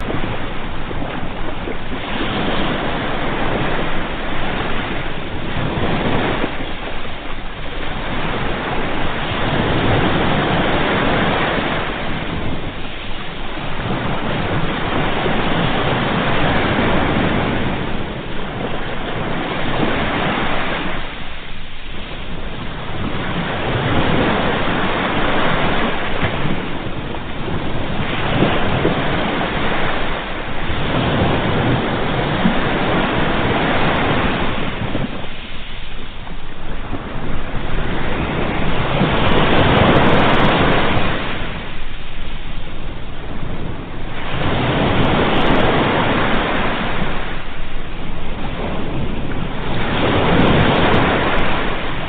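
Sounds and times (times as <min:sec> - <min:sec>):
sea waves breaking on shore: 0:00.0 - 0:52.0.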